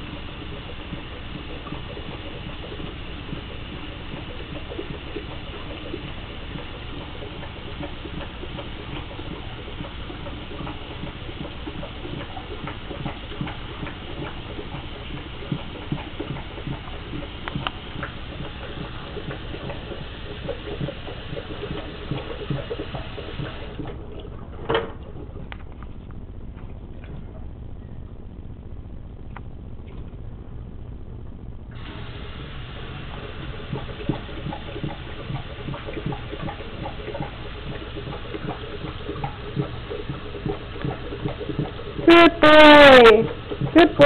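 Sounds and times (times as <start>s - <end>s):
faucet running with splash: 0.0s - 24.2s, 31.7s - 44.0s
dog lapping water: 0.0s - 27.8s, 31.7s - 44.0s.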